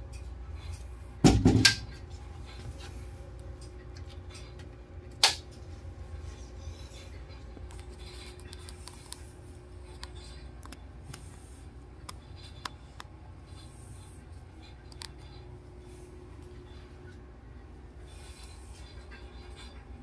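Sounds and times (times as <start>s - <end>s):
low hum of machinery: 0.0s - 20.0s.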